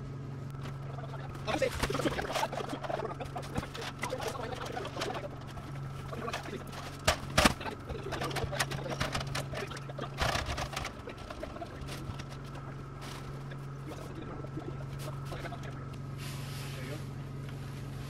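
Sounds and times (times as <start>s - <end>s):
steady low hum: 0.0s - 18.0s
ladder and materials clattering: 0.6s - 15.6s.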